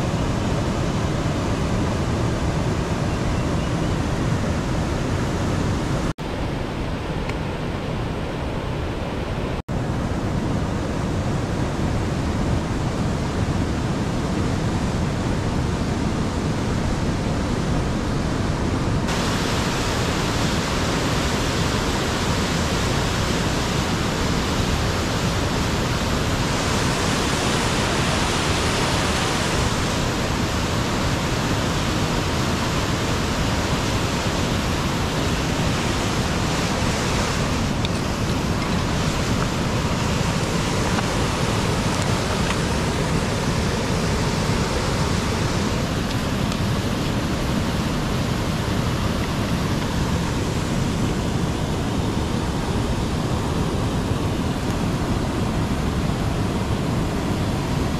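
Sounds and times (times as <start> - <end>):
river flowing over rocks: 0.0 - 57.9.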